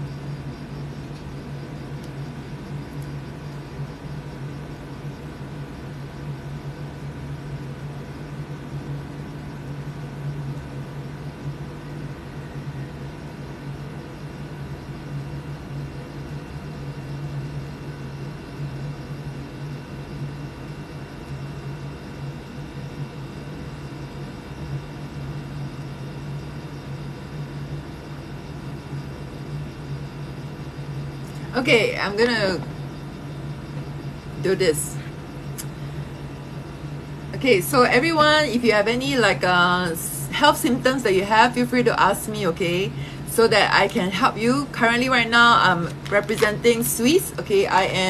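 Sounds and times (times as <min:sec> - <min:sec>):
air conditioner humming: 0:00.0 - 0:48.0.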